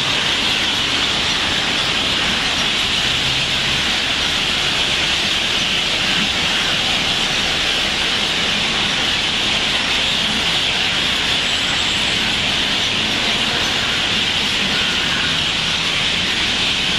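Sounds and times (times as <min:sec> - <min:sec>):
flock of crows and birds calling: 0:00.0 - 0:16.9.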